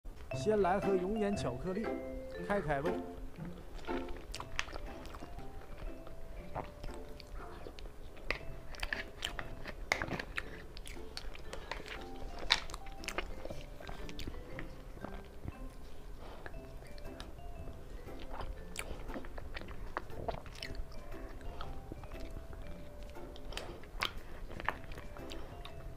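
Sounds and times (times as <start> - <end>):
light background music: 0.1 - 25.9
wet mouth chewing sounds: 3.3 - 25.9.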